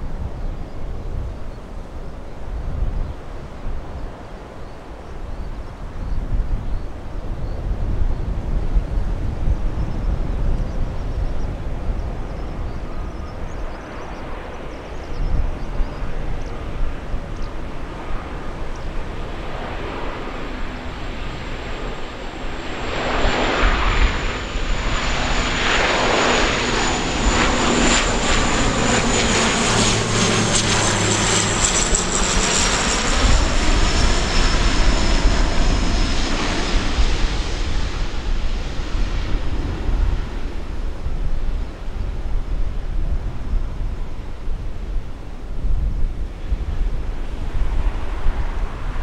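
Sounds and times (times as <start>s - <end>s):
turboprop aircraft engines: 0.0s - 49.0s.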